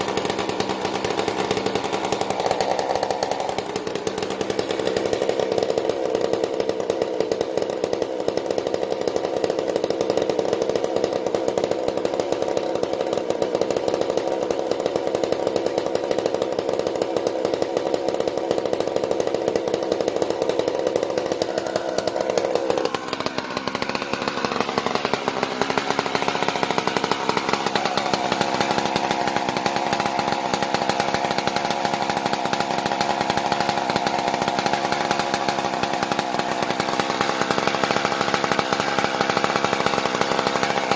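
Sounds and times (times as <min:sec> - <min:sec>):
chainsaw engine idling: 0:00.0 - 0:40.9.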